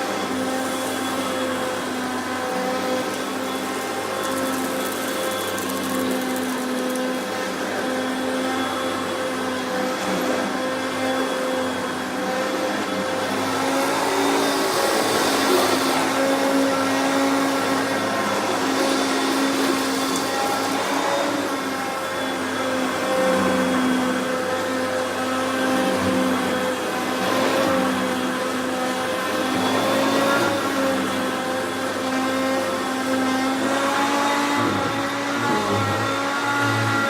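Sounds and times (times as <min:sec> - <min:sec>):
vacuum cleaner running on rug: 0:00.0 - 0:37.0.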